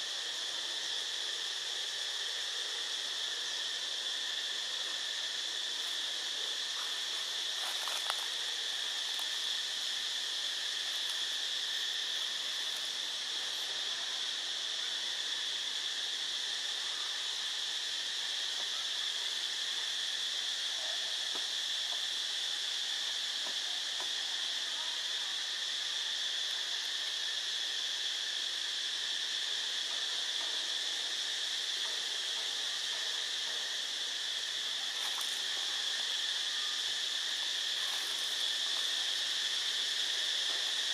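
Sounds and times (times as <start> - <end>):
insects buzzing: 0.0 - 40.9.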